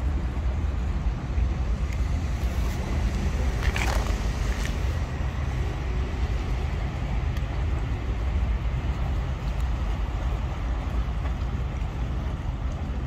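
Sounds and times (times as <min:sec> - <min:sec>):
distant boats and traffic drone: 0:00.0 - 0:13.0.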